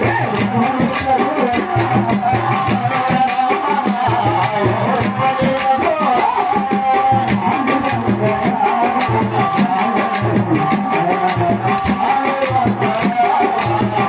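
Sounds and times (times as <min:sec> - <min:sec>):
drums: 0:00.0 - 0:14.0
fast clicking stick beat: 0:00.0 - 0:14.0.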